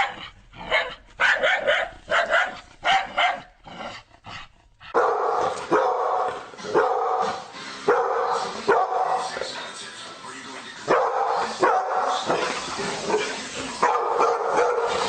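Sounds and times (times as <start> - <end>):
dog barking: 0.0 - 3.6, 4.9 - 9.3, 10.9 - 15.0.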